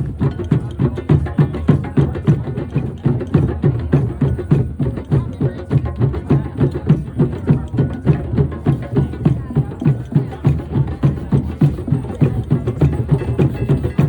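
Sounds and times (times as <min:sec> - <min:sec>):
drums playing driving beat: 0:00.0 - 0:14.0.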